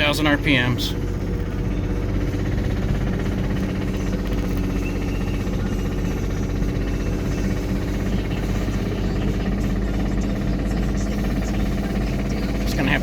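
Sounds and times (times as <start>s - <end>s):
car engine running: 0.0s - 13.0s
engine knocking: 0.0s - 13.0s.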